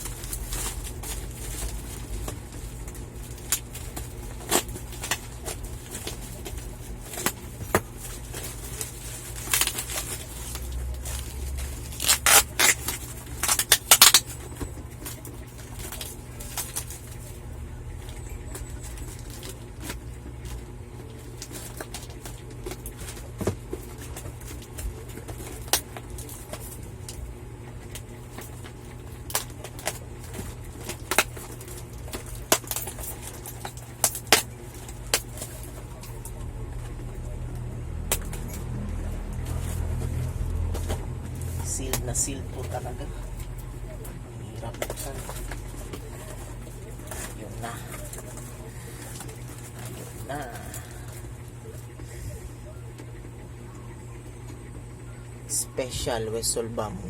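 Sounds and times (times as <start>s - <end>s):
packaging rustling and clicking: 0.0s - 52.1s
packaging crinkling: 0.0s - 52.3s.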